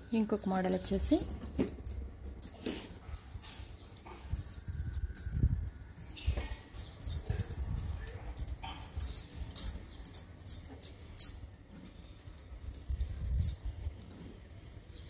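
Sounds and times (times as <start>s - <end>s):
glass bangles clinking: 0.1s - 5.6s, 6.2s - 15.0s.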